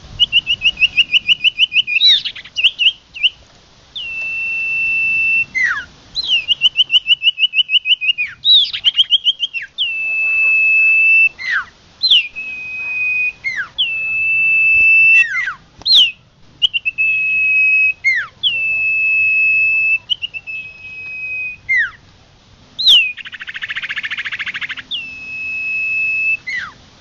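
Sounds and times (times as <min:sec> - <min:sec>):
bird whistling: 0:00.2 - 0:22.0, 0:22.8 - 0:26.8.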